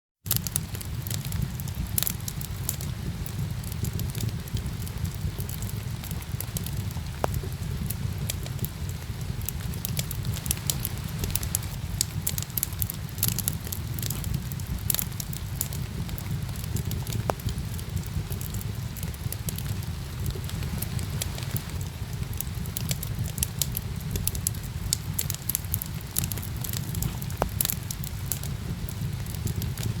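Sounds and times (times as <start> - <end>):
rain rushing: 0.3 - 30.0
wood fire crackling and popping: 0.3 - 30.0.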